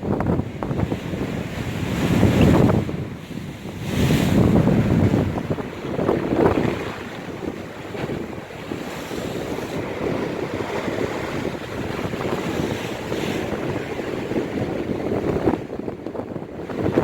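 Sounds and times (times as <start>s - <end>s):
waves breaking on shore: 0.0s - 17.0s
wind buffeting microphone: 0.0s - 17.0s.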